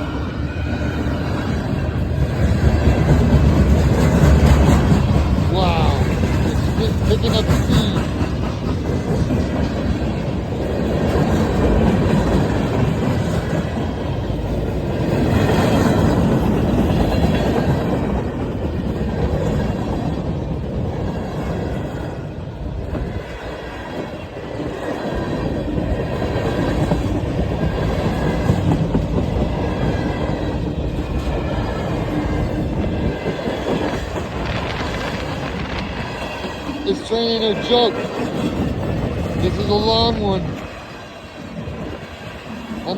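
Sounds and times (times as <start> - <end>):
freight train wheels clattering: 0.0 - 42.9.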